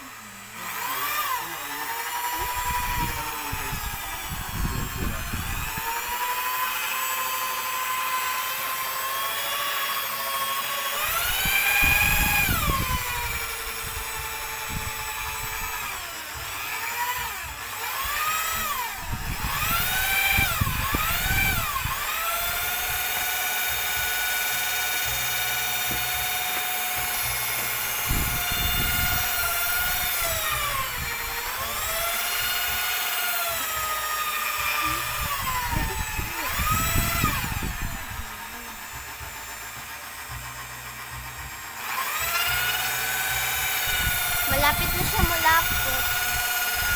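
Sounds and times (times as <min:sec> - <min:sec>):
electric drill motor whining: 0:00.0 - 0:46.9.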